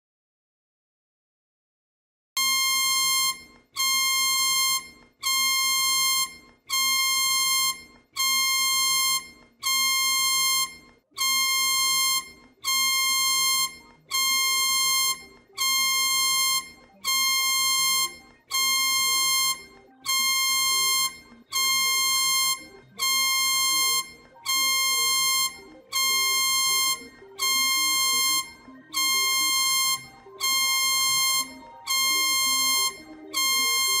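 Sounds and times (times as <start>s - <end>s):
harsh electronic alarm beeping: 2.4s - 34.0s.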